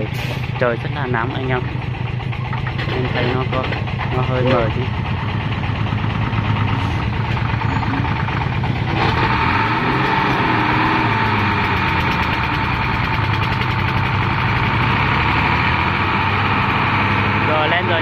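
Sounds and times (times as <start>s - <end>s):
diesel truck engine revving: 0.0s - 18.0s.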